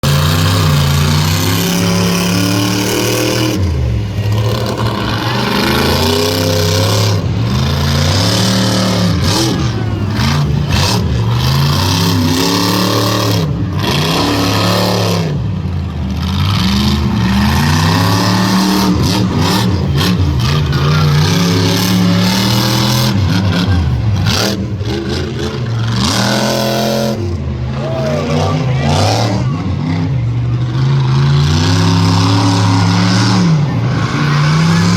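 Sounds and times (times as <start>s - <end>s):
truck engine revving hard: 0.0s - 34.9s.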